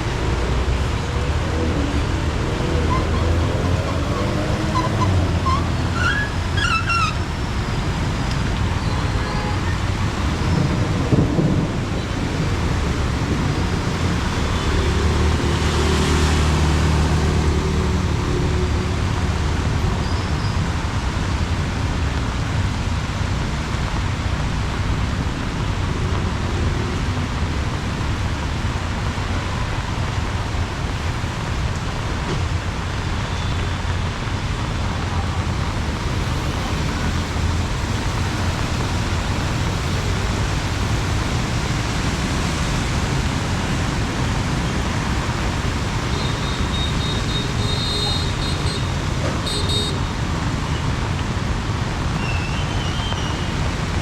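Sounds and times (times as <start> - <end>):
heavy rain drumming on umbrella: 0.2 - 54.0
vehicle passing with tyre spray: 2.1 - 54.0.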